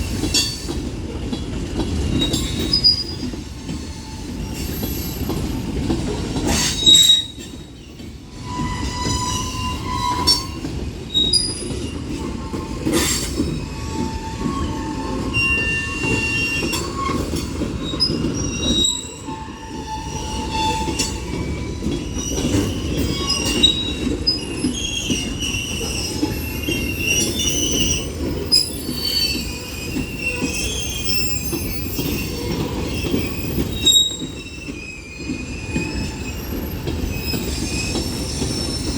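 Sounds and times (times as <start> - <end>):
steel wheels rumbling on rail: 0.0 - 38.9
wheel squeals: 2.0 - 38.9.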